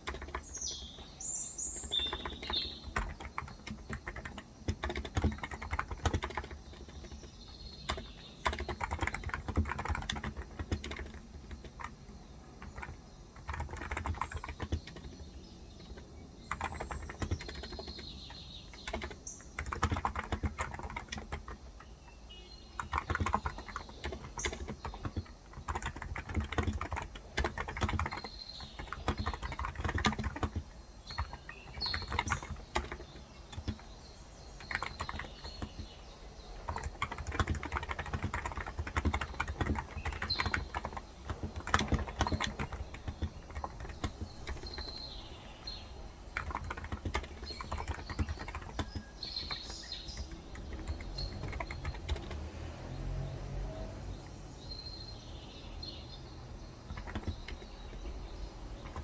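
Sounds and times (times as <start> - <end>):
keyboard typing: 0.0 - 22.0, 22.6 - 52.9, 56.8 - 59.0
birds chirping: 0.0 - 59.0.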